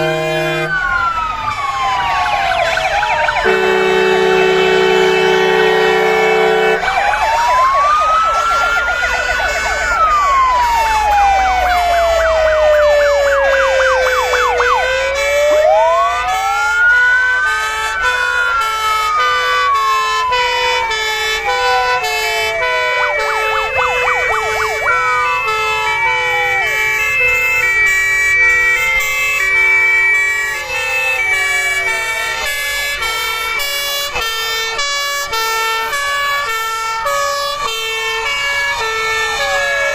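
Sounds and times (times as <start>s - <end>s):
fire engine sirens: 0.0s - 39.9s
truck engines running: 0.0s - 39.9s.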